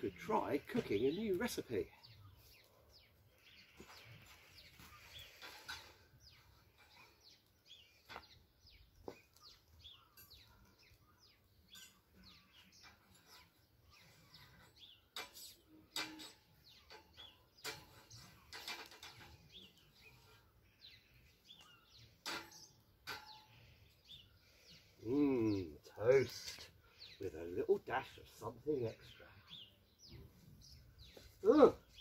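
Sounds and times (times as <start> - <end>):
faint birdsong: 0.0 - 32.0.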